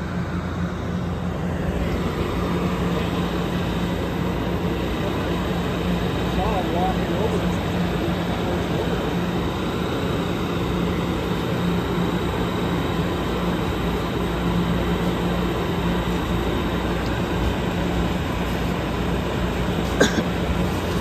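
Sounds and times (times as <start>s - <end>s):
idling train rushing hum: 0.0s - 21.0s.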